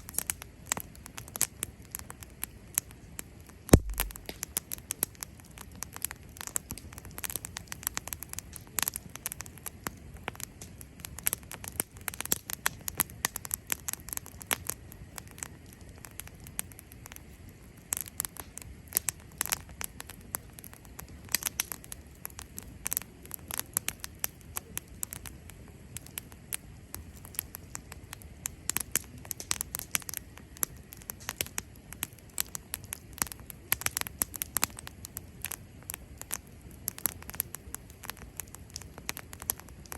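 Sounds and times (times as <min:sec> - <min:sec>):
campfire crackling and popping: 0:00.0 - 0:39.9
hiss of flames: 0:00.0 - 0:39.9.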